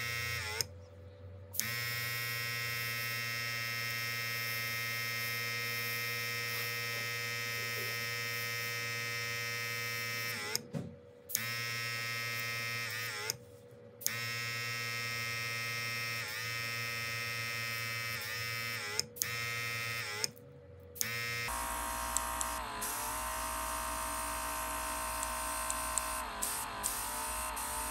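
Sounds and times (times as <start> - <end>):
mini compressor buzzing: 0.0 - 0.8, 1.5 - 13.4, 14.0 - 20.4, 21.0 - 27.9.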